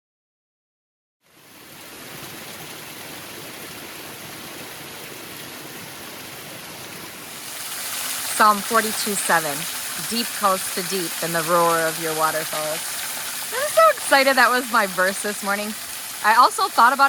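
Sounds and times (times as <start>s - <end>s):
waterfall rushing: 1.6s - 17.0s.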